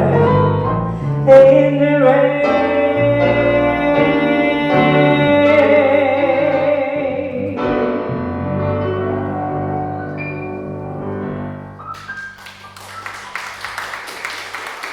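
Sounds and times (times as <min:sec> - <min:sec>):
bass: 0:00.0 - 0:12.4
piano: 0:00.0 - 0:14.9.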